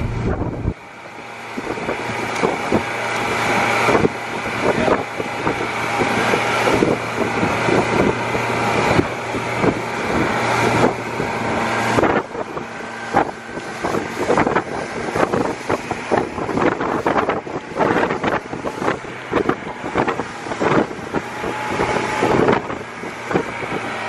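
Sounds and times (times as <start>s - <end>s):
outboard motor drone: 0.0s - 24.0s
water splashing: 0.0s - 24.0s
wind on microphone: 0.0s - 24.0s.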